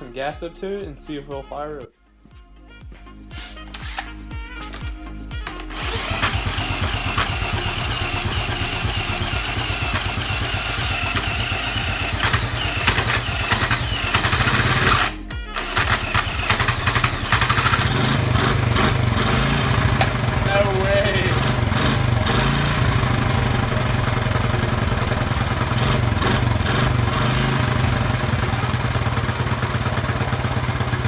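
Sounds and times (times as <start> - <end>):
small engine cranking and running: 3.4 - 31.0.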